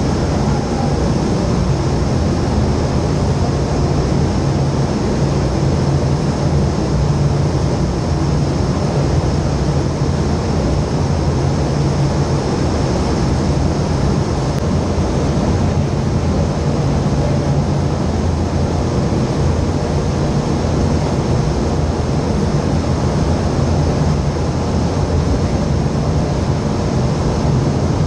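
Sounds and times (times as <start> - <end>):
fans humming: 0.0 - 28.0
rush of air: 0.0 - 28.0.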